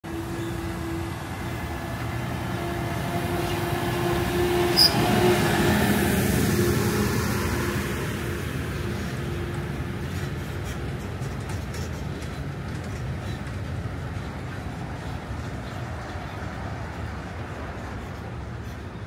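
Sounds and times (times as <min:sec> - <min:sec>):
tram running rumble and whine: 0:00.0 - 0:19.0.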